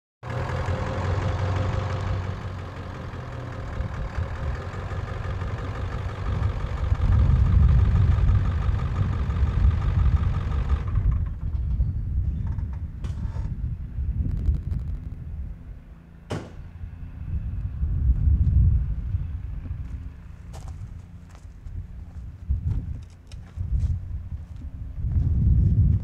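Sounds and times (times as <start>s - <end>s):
engine idling: 0.2s - 25.0s.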